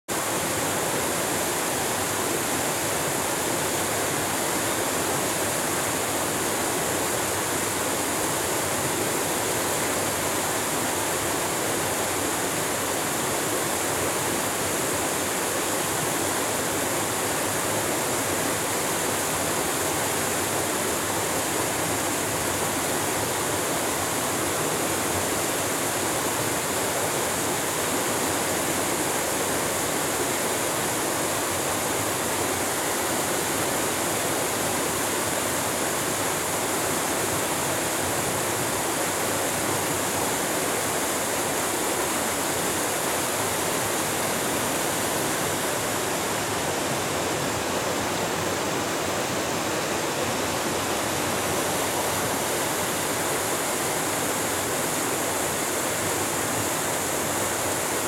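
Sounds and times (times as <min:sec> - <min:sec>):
stream water rushing over rocks: 0:00.1 - 0:58.0.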